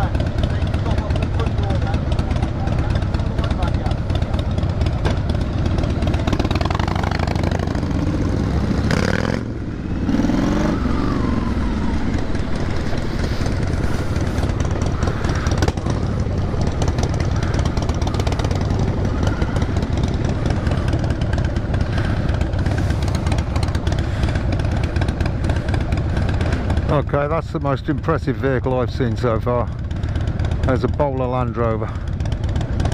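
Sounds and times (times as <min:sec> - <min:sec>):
motorcycle engines revving: 0:00.0 - 0:32.9.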